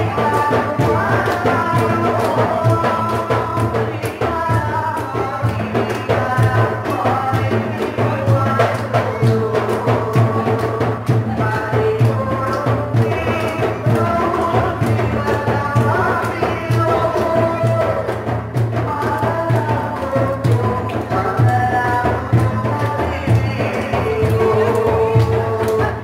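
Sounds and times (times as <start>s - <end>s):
man singing through microphone: 0.0s - 26.0s
regular drum beat: 0.0s - 26.0s.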